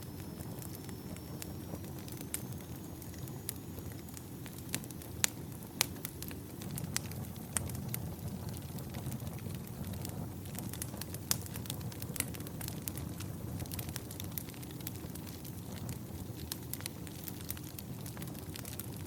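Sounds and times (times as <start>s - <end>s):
campfire flames rumbling: 0.0s - 19.0s
firewood crackles and pops: 0.0s - 19.0s.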